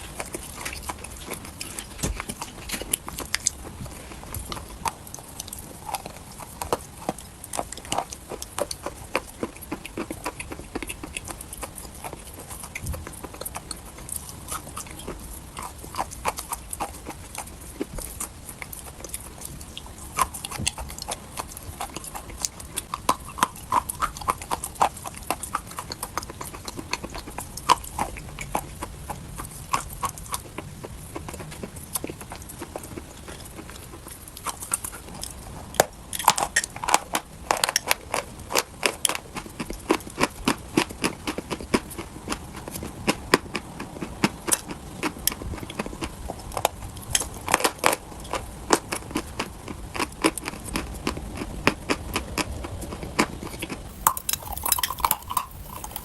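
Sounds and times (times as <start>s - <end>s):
chalk being chewed: 0.0s - 56.0s.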